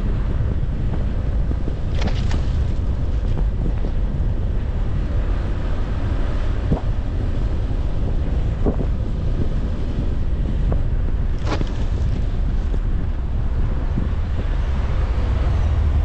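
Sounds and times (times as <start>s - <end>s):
tyres rumbling on packed snow: 0.0s - 16.0s.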